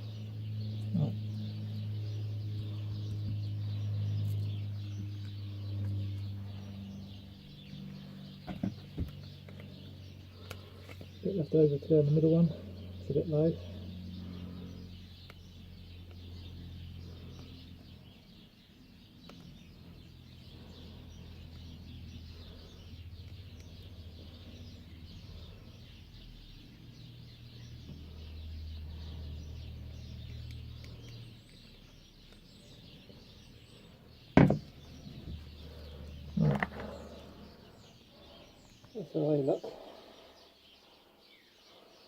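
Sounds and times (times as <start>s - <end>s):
birds chirping: 0.0s - 42.0s
steady low hum: 0.0s - 42.0s.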